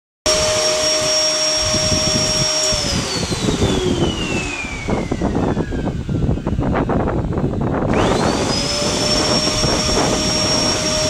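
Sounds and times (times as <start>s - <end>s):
vacuum cleaner motor whine: 0.3s - 11.0s.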